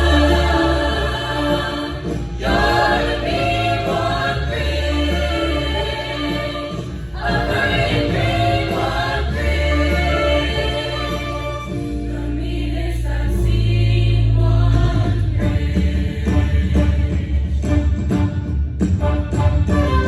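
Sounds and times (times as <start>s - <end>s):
choir singing in harmony: 0.0s - 18.5s
long low bass notes: 0.0s - 19.6s.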